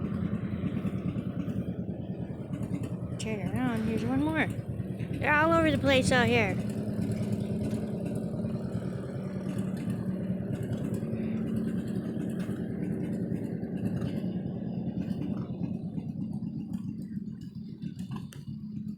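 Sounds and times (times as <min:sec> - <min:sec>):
tractor engine running: 0:00.0 - 0:18.9.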